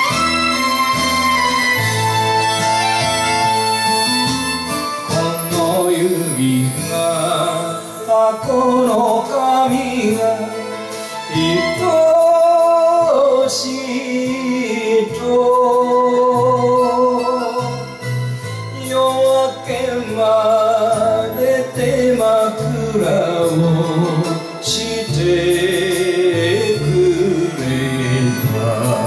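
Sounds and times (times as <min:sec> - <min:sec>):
instrumental accompaniment: 0:00.0 - 0:29.0
man singing a ballad: 0:05.0 - 0:29.0.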